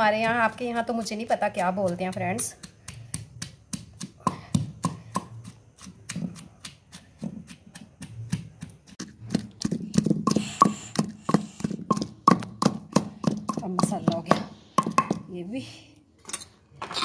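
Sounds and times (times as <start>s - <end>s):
pestle pounding in mortar: 0.0s - 15.4s.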